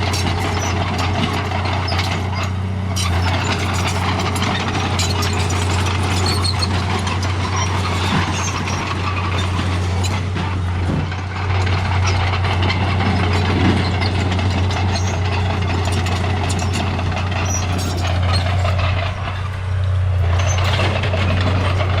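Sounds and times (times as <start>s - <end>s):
bulldozer engine droning: 0.0s - 22.0s.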